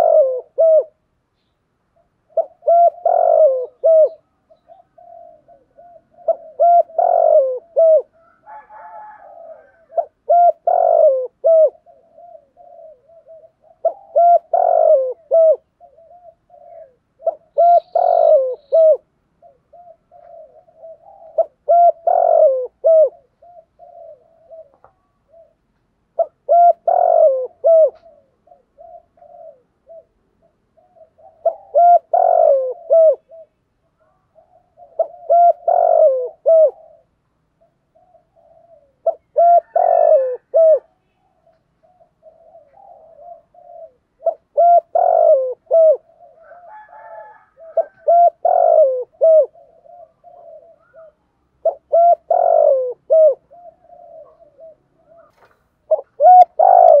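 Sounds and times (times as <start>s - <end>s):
dove cooing: 0.0s - 1.2s, 1.9s - 57.0s.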